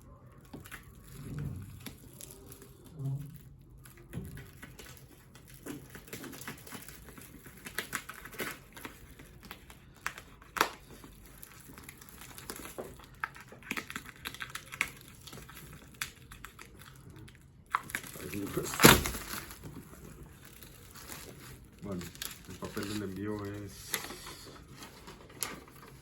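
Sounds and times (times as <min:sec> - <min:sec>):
plastic wrap crinkling: 0:00.1 - 0:26.0.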